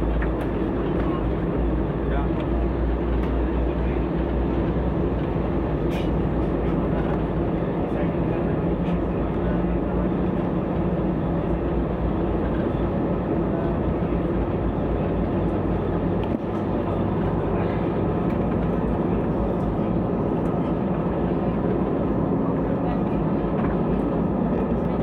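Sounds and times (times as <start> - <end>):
airliner cabin engine drone: 0.0 - 25.0
constant low hum: 0.0 - 25.0.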